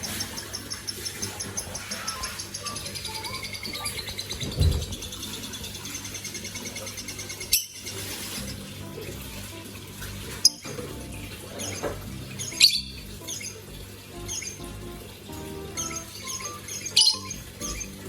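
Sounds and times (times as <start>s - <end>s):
small bird chirping: 0.0s - 8.6s, 10.5s - 18.0s.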